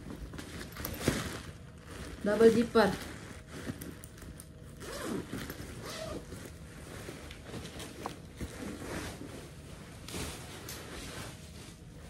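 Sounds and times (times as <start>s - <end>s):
zipper sliding: 0.4s - 11.4s.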